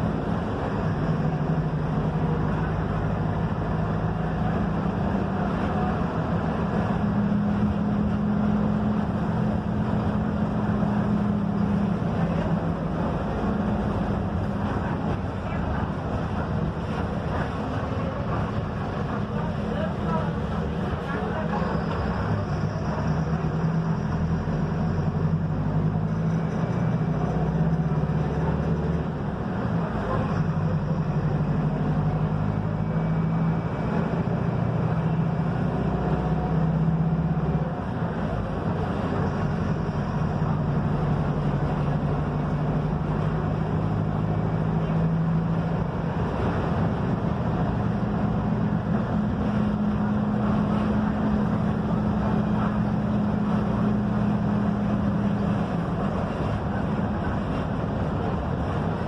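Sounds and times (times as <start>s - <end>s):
bus diesel engine running: 0.0s - 59.0s
road rumble: 0.0s - 59.0s.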